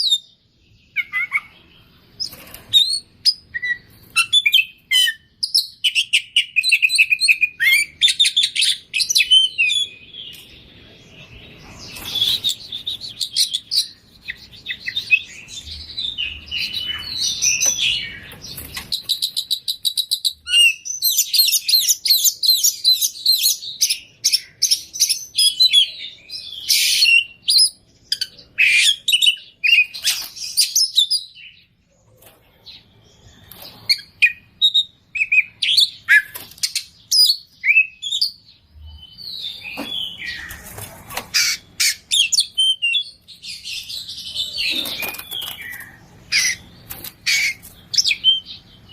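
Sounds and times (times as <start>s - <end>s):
songbird singing chirps and trills: 0.0s - 48.9s.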